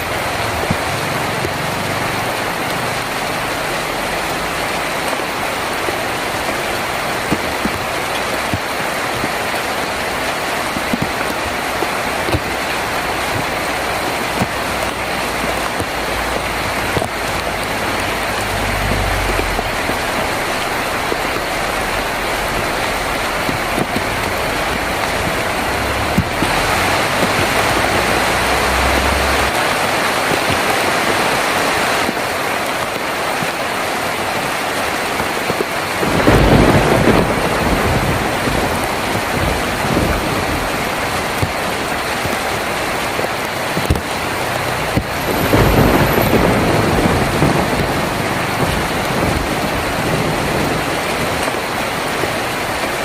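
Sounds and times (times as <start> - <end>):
thunder rumbling: 0.0 - 33.7, 35.0 - 53.0
heavy rain on a tin roof: 0.0 - 53.0.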